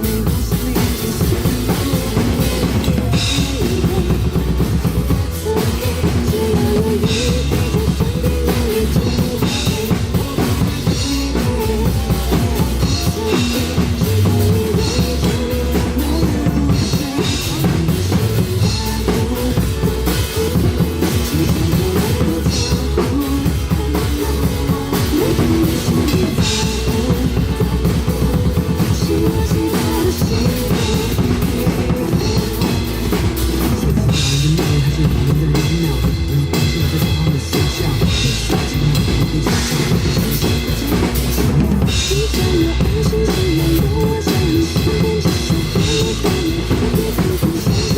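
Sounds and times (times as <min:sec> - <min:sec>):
drum kit rock groove: 0:00.0 - 0:47.9
rock music with bass and melody: 0:00.0 - 0:47.9.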